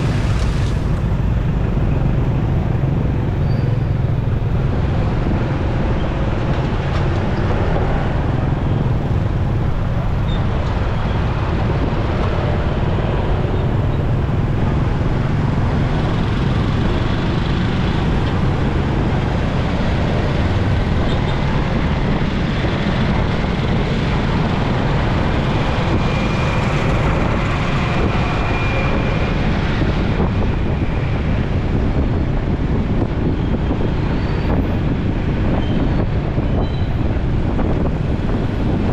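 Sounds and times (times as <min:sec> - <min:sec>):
rumble of surrounding vehicles: 0:00.0 - 0:38.9.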